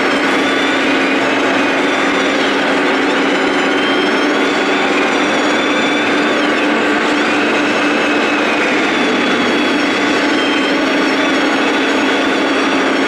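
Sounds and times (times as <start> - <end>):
high motor whines: 0.0 - 13.0
model trucks mechanical drone: 0.0 - 13.0.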